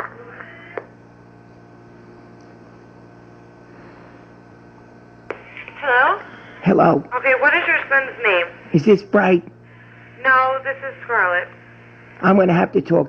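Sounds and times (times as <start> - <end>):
electrical hum with hiss: 0.0 - 13.0.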